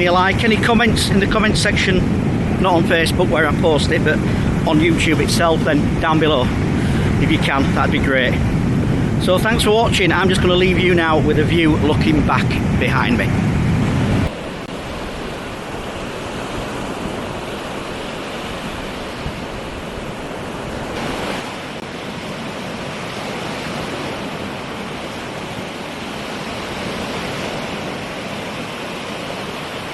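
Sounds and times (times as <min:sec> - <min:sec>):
sea waves washing on beach: 0:00.0 - 0:29.9.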